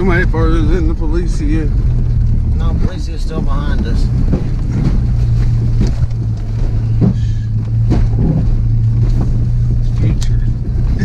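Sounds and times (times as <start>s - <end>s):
car engine running: 0.0s - 11.0s
car knocks and clunks: 1.6s - 11.0s.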